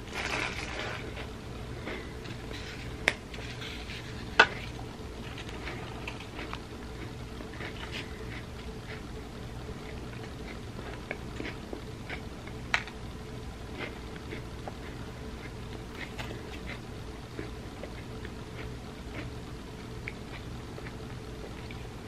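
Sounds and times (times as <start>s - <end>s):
crunching and wet chewing: 0.1s - 13.0s, 13.6s - 22.0s.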